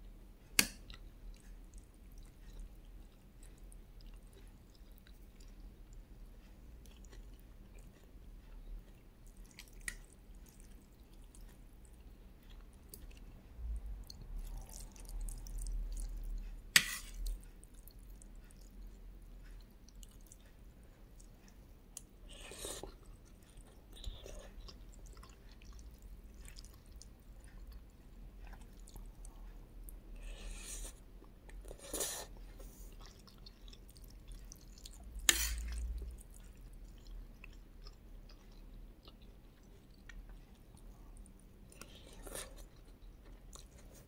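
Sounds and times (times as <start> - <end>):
chewing and wet mouth noises: 0.8 - 44.0.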